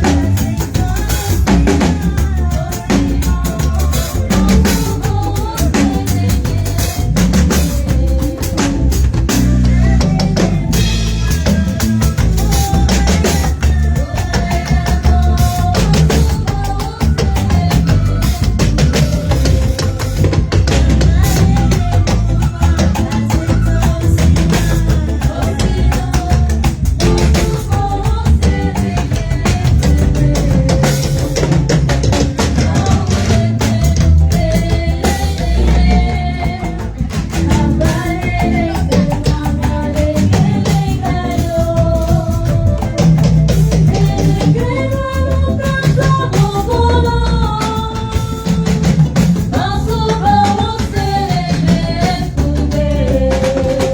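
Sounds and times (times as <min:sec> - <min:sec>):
live band music: 0:00.0 - 0:53.9.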